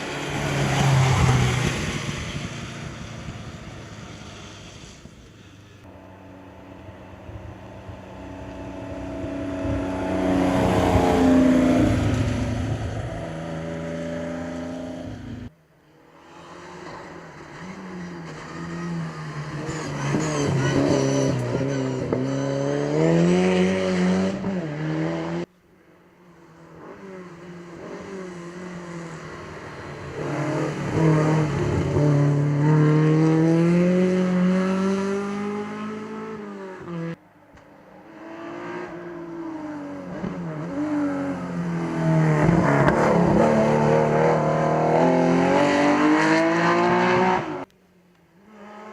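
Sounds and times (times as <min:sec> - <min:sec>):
rally car engines revving past: 0:00.0 - 0:05.2, 0:05.8 - 0:25.5, 0:26.4 - 0:37.2, 0:37.9 - 0:47.7, 0:48.4 - 0:48.9.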